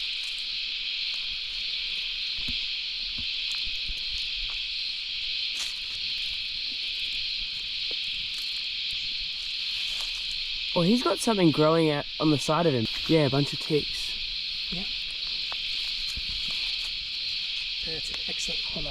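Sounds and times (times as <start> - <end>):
cicadas droning: 0.0 - 18.9.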